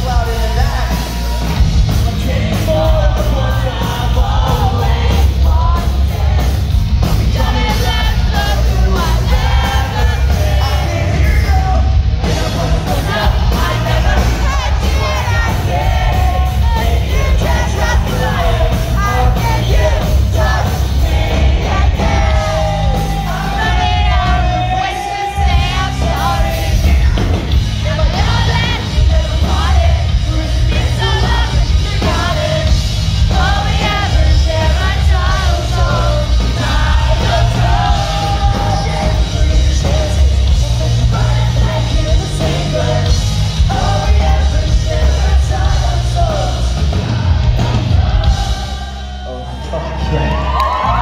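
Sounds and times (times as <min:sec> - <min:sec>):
bass guitar: 0:00.0 - 0:51.0
distorted electric guitars: 0:00.0 - 0:51.0
drums: 0:00.0 - 0:51.0
lead vocalist singing: 0:00.0 - 0:51.0.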